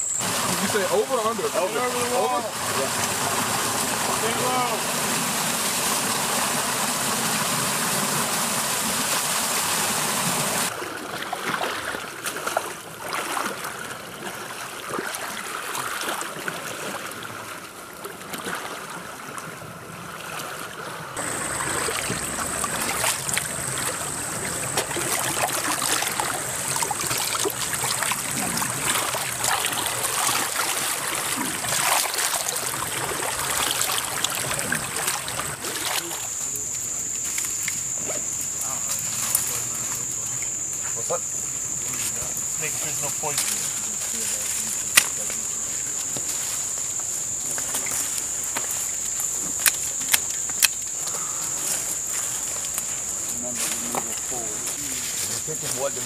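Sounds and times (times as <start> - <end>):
sharp water splashes: 0.0 - 51.0
creek water running: 0.0 - 56.0.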